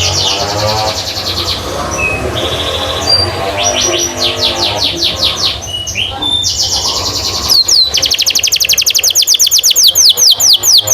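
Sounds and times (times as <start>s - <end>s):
canary singing: 0.0s - 10.9s.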